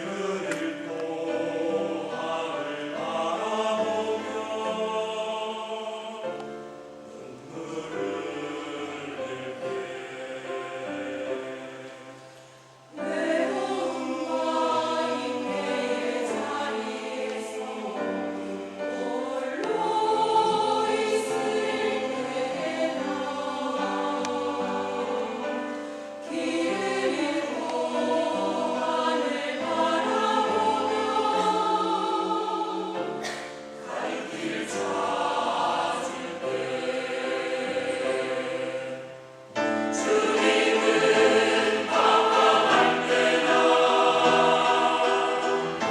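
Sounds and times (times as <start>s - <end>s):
church choir singing: 0.0s - 45.9s.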